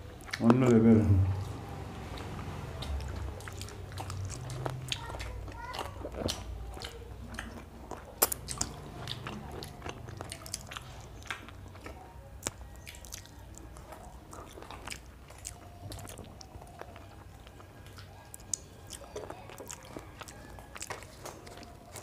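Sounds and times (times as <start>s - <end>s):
low steady hum: 0.0s - 22.0s
people chewing: 0.0s - 22.0s.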